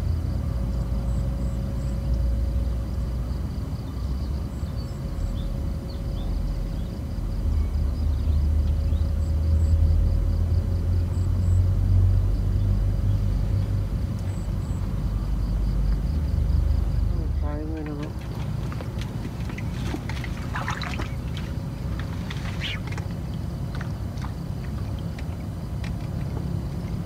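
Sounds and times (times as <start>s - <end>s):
faint steady hum: 0.0s - 27.0s
low uneven rumble: 0.0s - 27.0s.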